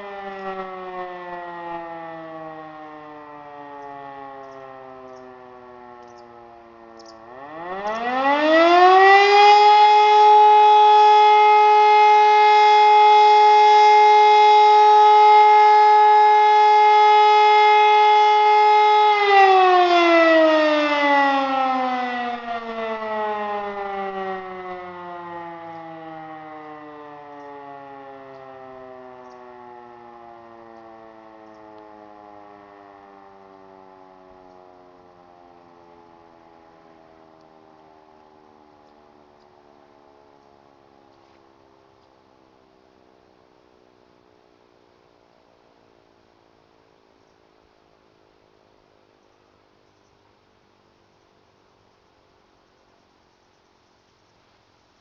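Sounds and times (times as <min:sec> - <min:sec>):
siren wailing: 0:00.0 - 0:49.8.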